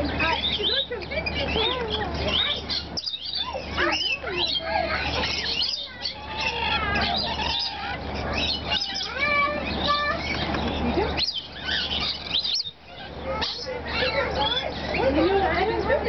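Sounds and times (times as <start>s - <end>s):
lorikeets squeaky calls: 0.0s - 16.0s.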